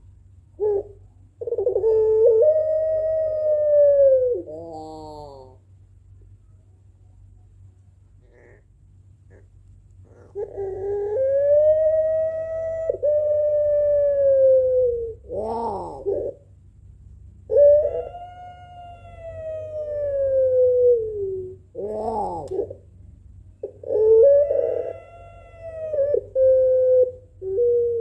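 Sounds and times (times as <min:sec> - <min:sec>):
dove cooing: 0:00.6 - 0:05.6, 0:08.2 - 0:16.5, 0:17.4 - 0:28.0.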